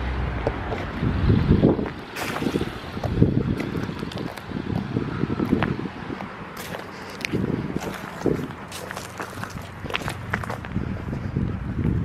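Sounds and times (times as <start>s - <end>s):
footsteps of people walking: 1.8s - 12.0s.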